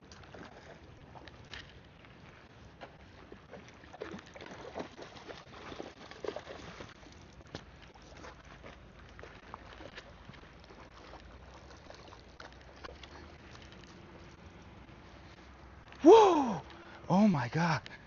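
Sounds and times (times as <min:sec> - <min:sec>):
small splashes and knocks: 0:00.0 - 0:14.8
flowing river water: 0:00.0 - 0:18.0.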